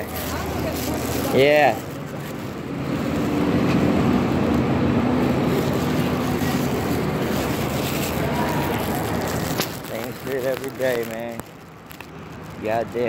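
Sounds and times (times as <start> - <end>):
motor vehicle engine humming: 0.0 - 13.0.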